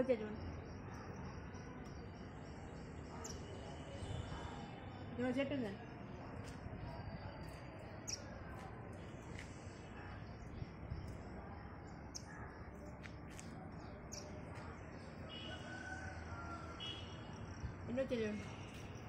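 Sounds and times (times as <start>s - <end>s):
birds chirping: 0.0s - 19.0s
faint outdoor background noise: 0.0s - 19.0s.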